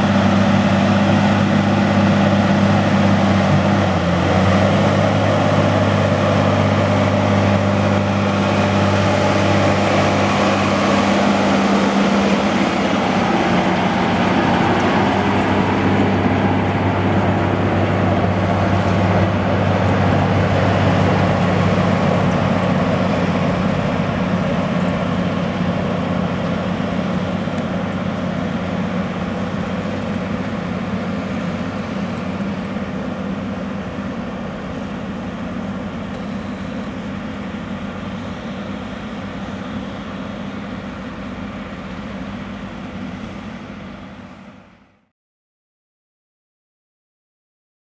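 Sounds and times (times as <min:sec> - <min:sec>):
tractor diesel engine under load: 0:00.0 - 0:45.1.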